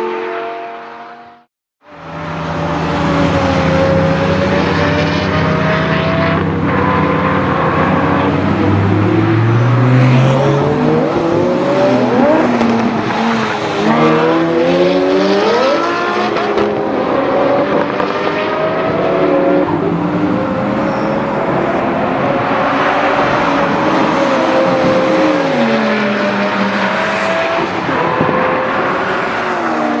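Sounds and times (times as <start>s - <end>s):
sports car engine accelerating: 0.8s - 30.0s.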